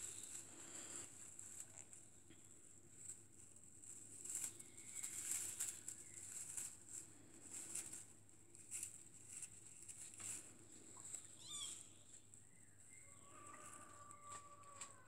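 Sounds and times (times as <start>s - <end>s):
rustling of dry hay: 0.0s - 15.0s.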